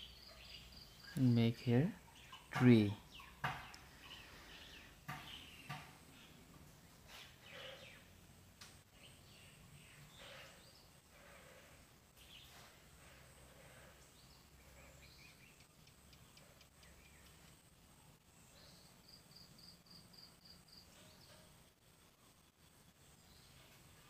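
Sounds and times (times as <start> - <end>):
distant bird chirps: 0.0 - 21.6.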